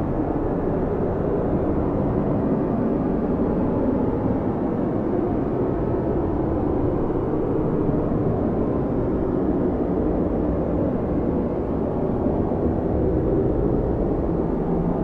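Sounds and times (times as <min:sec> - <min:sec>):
strong snowstorm wind: 0:00.0 - 0:15.0.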